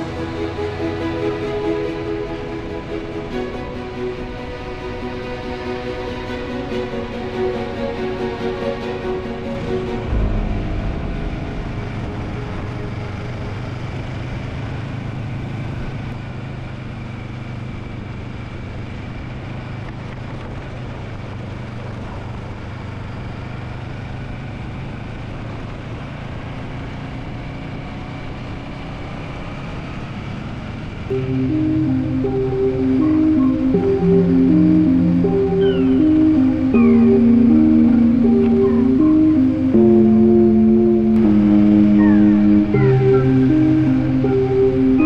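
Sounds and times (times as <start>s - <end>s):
engine droning: 0.0s - 27.2s, 27.9s - 45.0s.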